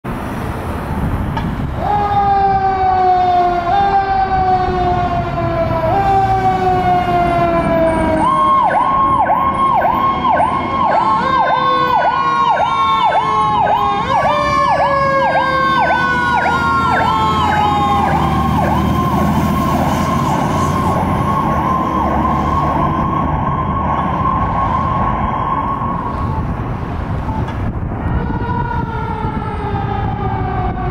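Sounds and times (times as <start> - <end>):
truck engine rumble: 0.0 - 30.9
wailing siren: 0.8 - 30.9
yelping siren: 1.8 - 30.9.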